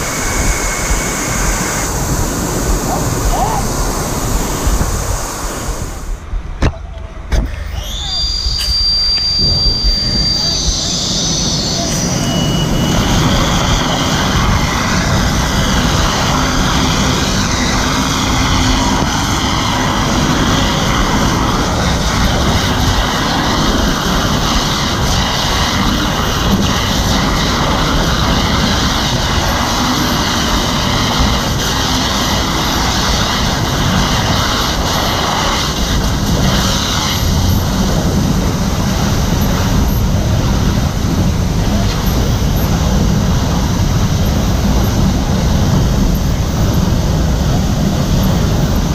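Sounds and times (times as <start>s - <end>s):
fire hose stream rushing: 0.0s - 6.4s, 7.3s - 48.9s
fire roaring: 0.0s - 6.4s, 7.3s - 48.9s.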